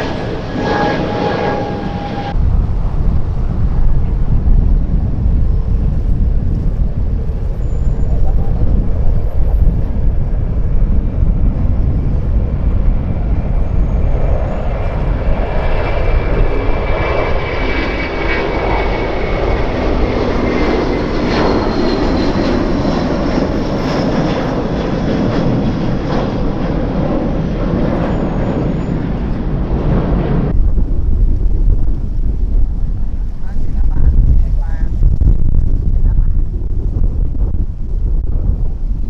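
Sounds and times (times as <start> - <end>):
jet engines rumbling and whining: 0.0 - 39.0.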